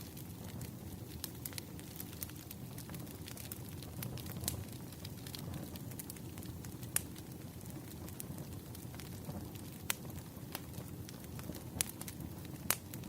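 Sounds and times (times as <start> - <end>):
bonfire crackling and popping: 0.0 - 13.0
low fire rumble: 0.0 - 13.0.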